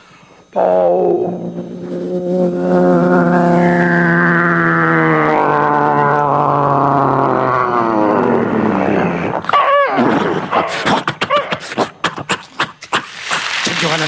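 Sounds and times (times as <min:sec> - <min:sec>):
man imitating aircraft engine: 0:00.5 - 0:13.1.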